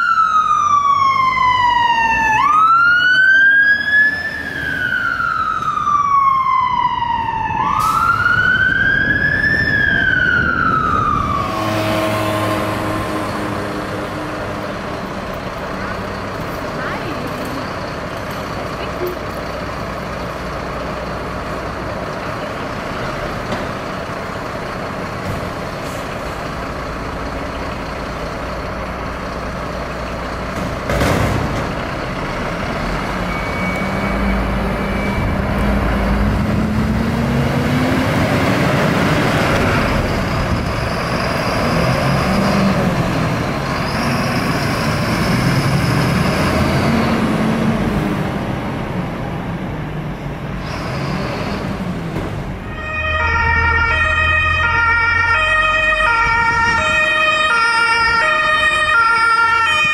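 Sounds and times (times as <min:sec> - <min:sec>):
diesel fire truck engine running: 0:00.0 - 0:59.9.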